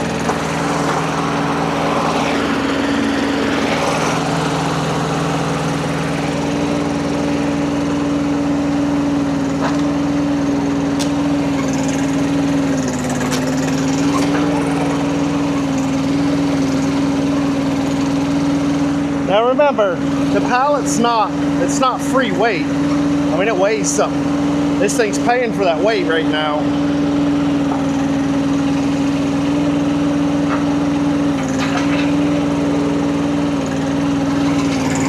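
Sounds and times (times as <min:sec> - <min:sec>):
engine running at high revs: 0:00.0 - 0:35.0.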